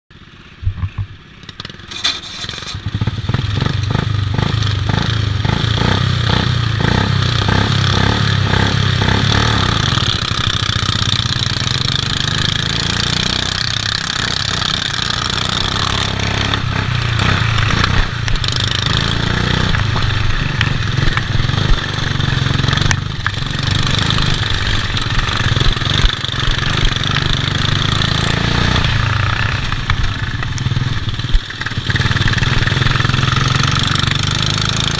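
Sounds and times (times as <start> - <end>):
lawn mower engine at full throttle: 1.2 - 34.9
other mowers racing nearby: 1.9 - 34.9.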